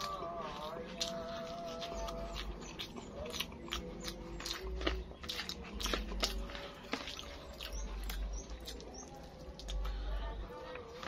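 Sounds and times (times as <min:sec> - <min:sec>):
person chewing wetly: 0:00.0 - 0:11.0.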